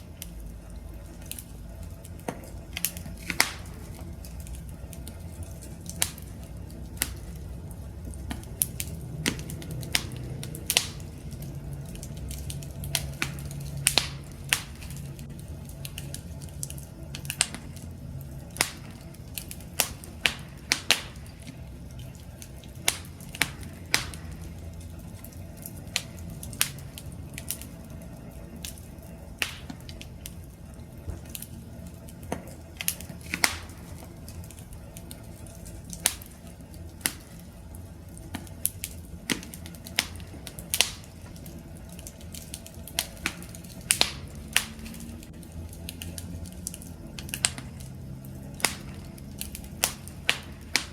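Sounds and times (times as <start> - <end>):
campfire crackling and popping: 0.0 - 50.9
low rumble of burning fire: 0.0 - 50.9.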